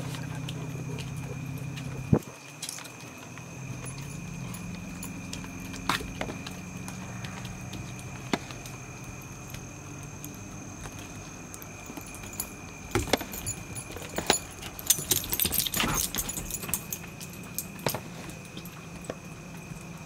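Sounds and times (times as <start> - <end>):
paws clicking on wooden deck: 0.0 - 19.7
collar tags jingling: 0.0 - 20.0.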